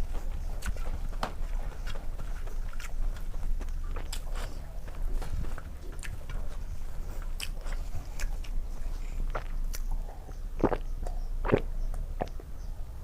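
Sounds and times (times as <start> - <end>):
person chewing and biting food: 0.0 - 12.4
low steady hum: 0.0 - 13.0.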